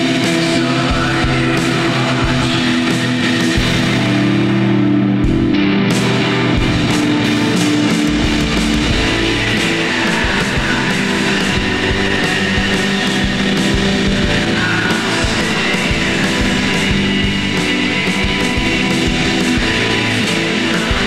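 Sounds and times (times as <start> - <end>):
drums steady beat: 0.0 - 21.0
fuzz-distorted electric guitar: 0.0 - 21.0
sustained bass notes: 0.0 - 21.0.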